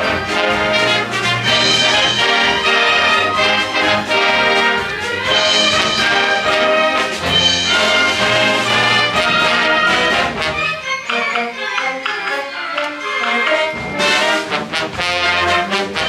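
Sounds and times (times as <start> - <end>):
orchestra playing: 0.0 - 16.0.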